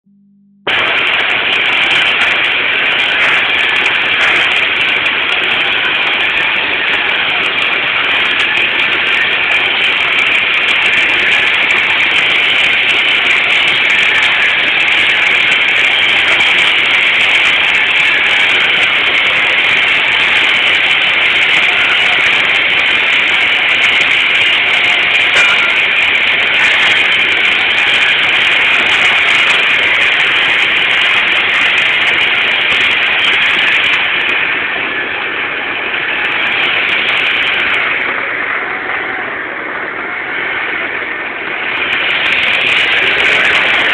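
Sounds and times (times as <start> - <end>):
welding arc hissing: 0.7 - 43.9.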